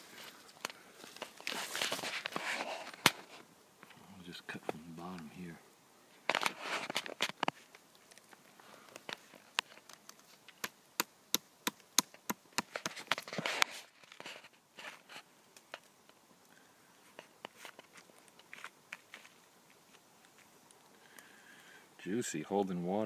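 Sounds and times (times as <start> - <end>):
hand handling fungus crackling: 0.0 - 21.8.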